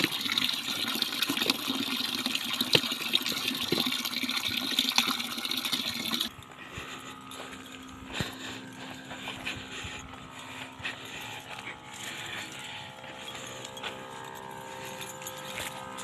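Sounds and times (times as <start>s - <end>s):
sprayer humming: 0.0s - 16.0s.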